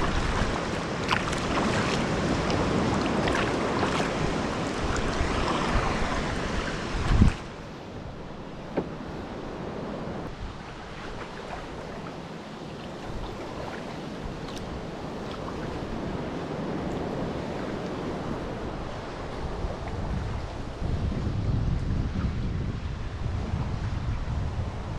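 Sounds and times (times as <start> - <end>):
sea water washing around kayak: 0.0 - 24.9
wind buffeting microphone: 0.0 - 24.9.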